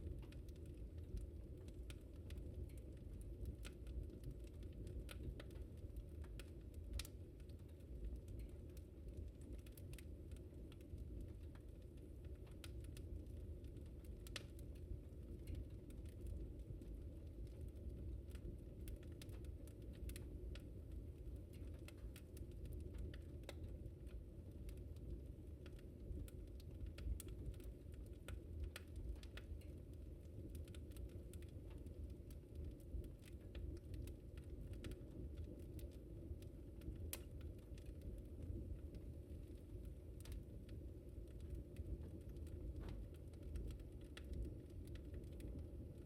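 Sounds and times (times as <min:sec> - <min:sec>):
fire crackling: 0:00.0 - 0:46.0.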